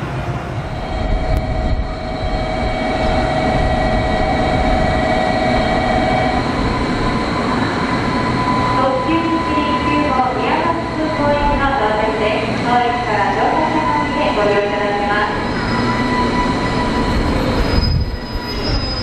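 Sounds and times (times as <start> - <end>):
steady high whine: 0.0 - 19.0
electric train braking to a stop: 0.6 - 11.6, 12.6 - 19.0.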